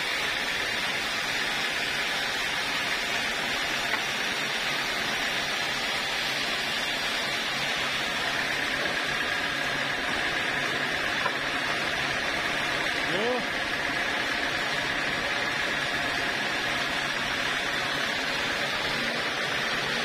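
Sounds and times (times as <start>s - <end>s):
running machine: 0.0s - 20.0s
thin whine: 0.0s - 20.0s.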